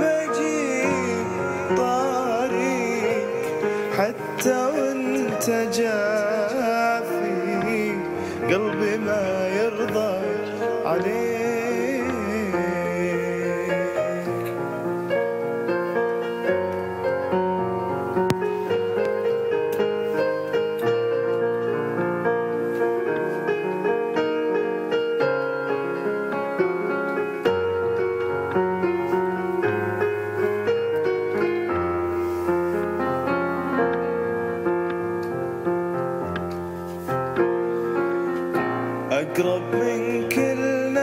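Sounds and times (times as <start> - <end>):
piano playing: 0.0 - 41.0.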